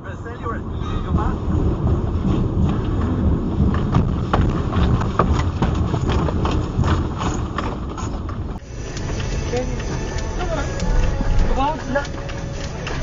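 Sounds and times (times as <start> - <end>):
heavy low rumble: 0.0 - 13.0
knocks and rattles: 1.1 - 13.0.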